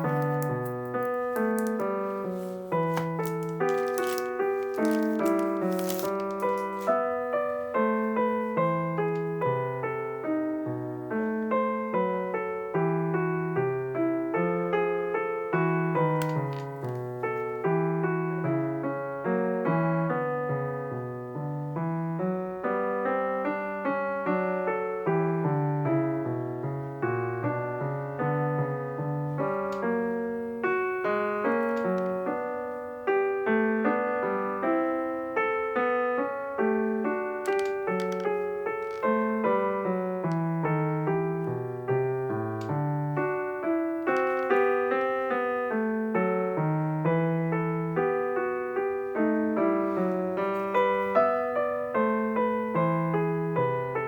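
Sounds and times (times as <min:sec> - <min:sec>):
slow solo piano minuet: 0:00.0 - 0:54.0.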